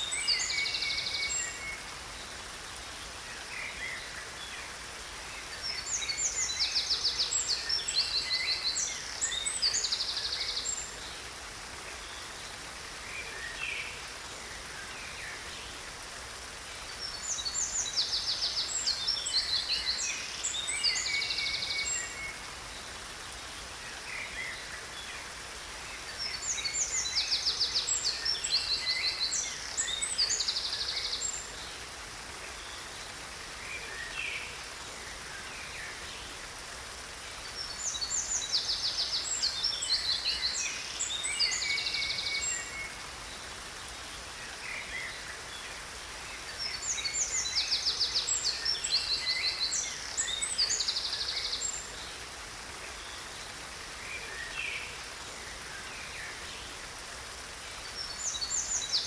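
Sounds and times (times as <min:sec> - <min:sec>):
falling water rushing: 0:00.0 - 0:59.0
songbirds trilling and chirping: 0:00.0 - 0:59.0.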